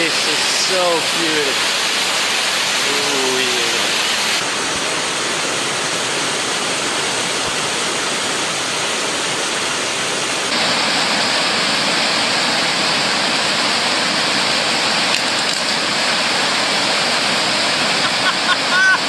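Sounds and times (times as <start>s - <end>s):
flowing water rushing: 0.0s - 19.0s.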